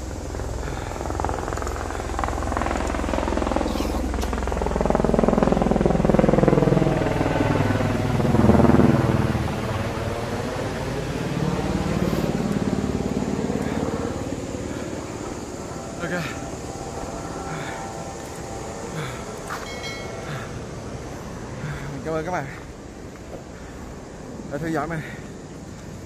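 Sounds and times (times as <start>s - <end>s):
aircraft engine drone: 0.0s - 26.0s.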